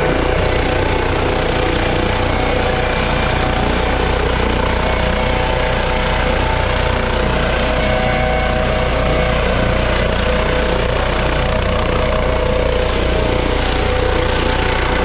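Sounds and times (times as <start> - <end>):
helicopter rotor beat: 0.0 - 15.0
turbine engine whine: 0.0 - 15.0.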